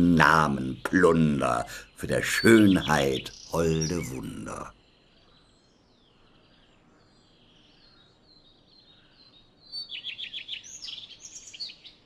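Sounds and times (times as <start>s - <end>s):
songbird chirps and trills: 0.0s - 12.0s.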